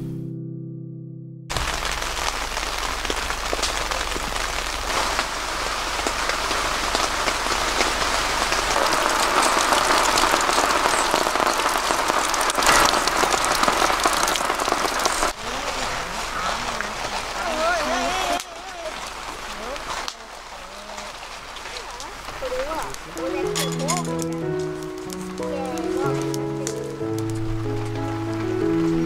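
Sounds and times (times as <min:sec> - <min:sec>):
heavy rain on tent fabric: 0:01.5 - 0:29.0.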